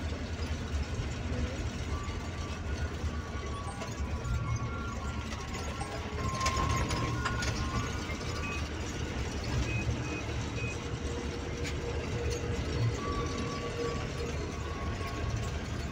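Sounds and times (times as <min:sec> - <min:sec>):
bus diesel engine running: 0:00.0 - 0:15.9.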